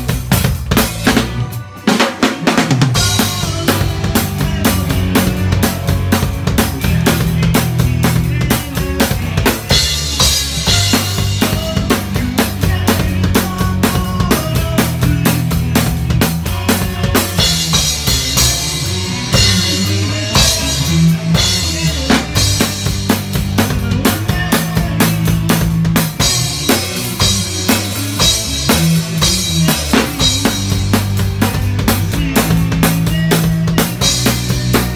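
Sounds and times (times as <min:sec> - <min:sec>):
drums and cymbals: 0:00.0 - 0:34.9
live band playing: 0:00.0 - 0:34.9.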